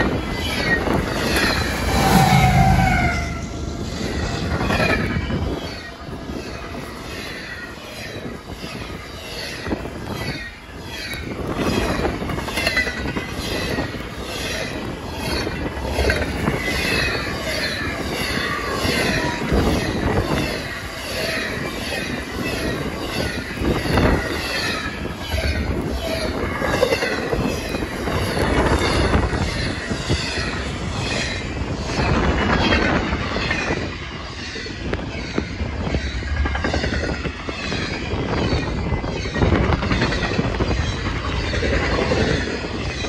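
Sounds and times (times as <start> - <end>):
high wavering wheel squeal: 0.0 - 8.3, 11.2 - 43.0
train wheels rumbling on rail: 0.0 - 43.0.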